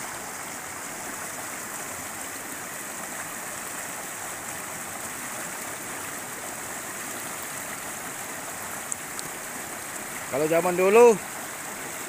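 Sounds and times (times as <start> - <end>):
river rushing over boulders: 0.0 - 12.0.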